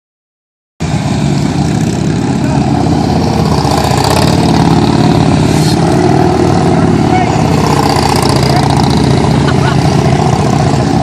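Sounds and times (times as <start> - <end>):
motorcycle engines running: 0.8 - 11.0.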